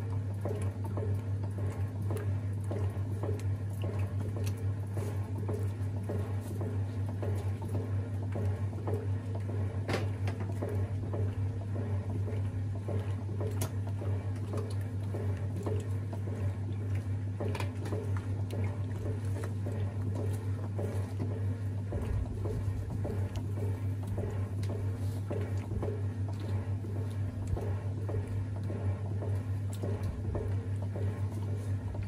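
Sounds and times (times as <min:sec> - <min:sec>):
water and laundry sloshing: 0:00.0 - 0:32.0.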